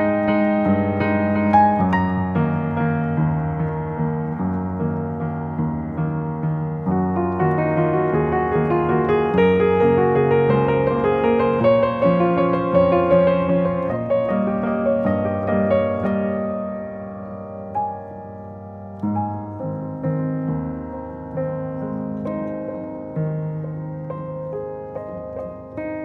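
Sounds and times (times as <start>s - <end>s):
soft solo piano music: 0.0s - 26.0s.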